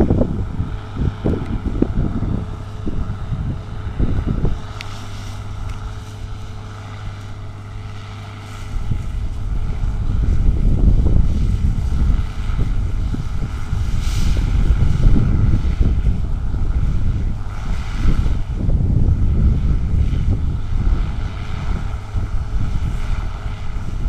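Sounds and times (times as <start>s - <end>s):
farm machinery engines running: 0.0s - 24.0s
wind rumbling on microphone: 0.0s - 24.0s.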